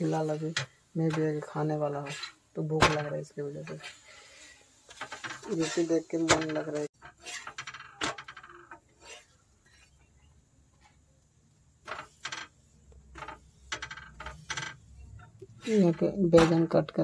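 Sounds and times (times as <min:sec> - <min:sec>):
metal spatula scraping iron griddle: 0:00.0 - 0:10.0, 0:11.8 - 0:17.0.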